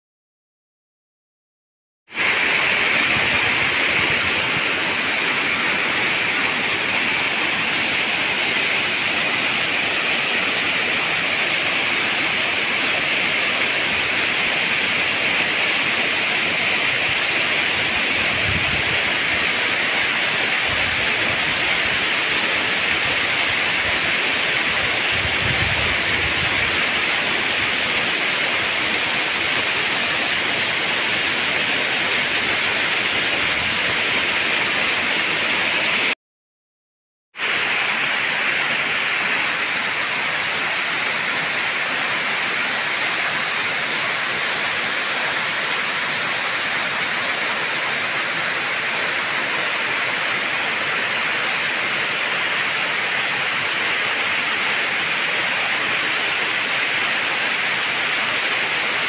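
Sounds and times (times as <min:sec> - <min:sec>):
waterfall rushing: 0:02.1 - 0:36.2, 0:37.4 - 0:59.0.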